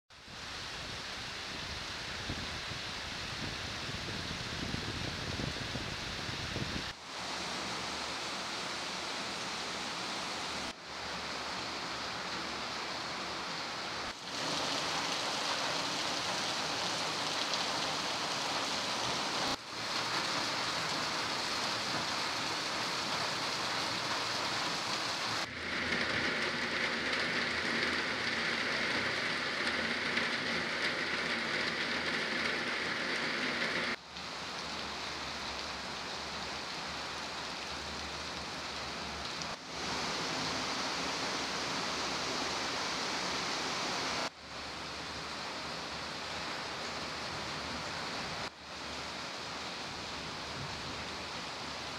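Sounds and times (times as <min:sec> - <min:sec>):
heavy rain pouring: 0:00.2 - 0:51.9.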